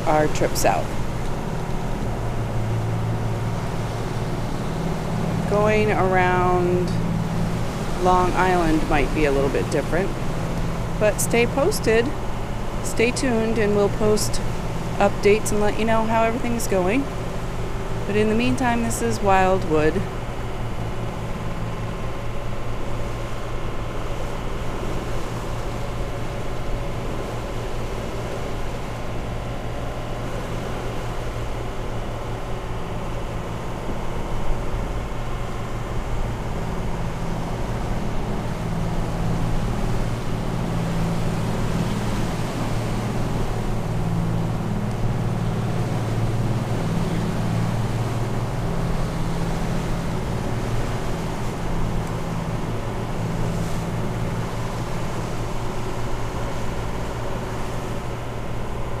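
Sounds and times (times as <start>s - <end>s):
boat engines droning: 0.0s - 59.0s
water rushing along hull: 0.0s - 59.0s.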